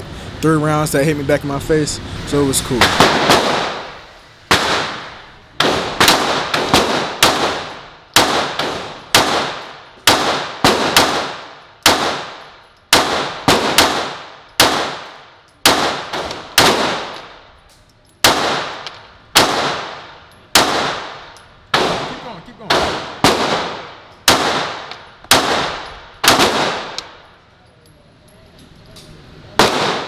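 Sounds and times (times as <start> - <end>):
pistol shots echoing: 2.8 - 17.4, 18.2 - 27.3, 29.6 - 30.0.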